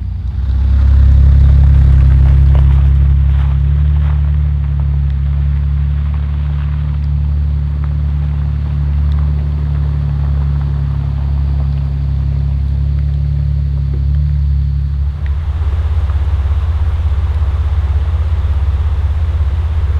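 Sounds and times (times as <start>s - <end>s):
vehicle engine rumbling: 0.0s - 19.9s.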